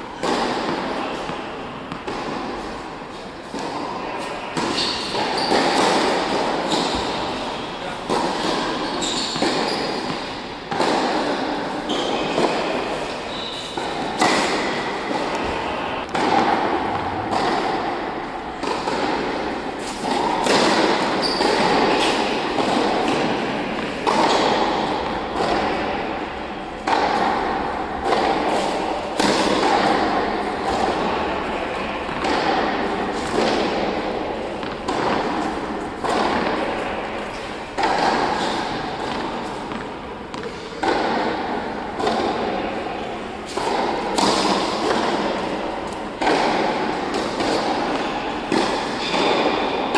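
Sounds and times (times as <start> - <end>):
rackets striking balls: 0.2 - 49.9
tennis balls bouncing: 0.2 - 49.9.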